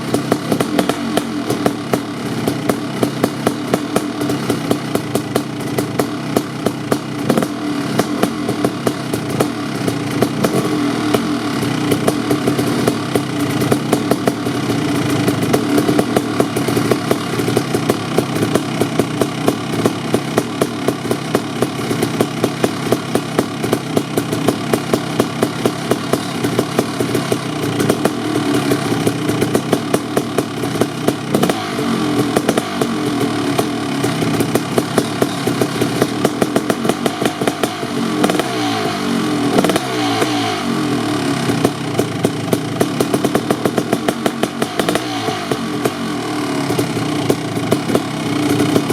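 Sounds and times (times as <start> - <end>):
exhaust popping: 0.0 - 48.9
two-stroke engine idling: 0.0 - 48.9.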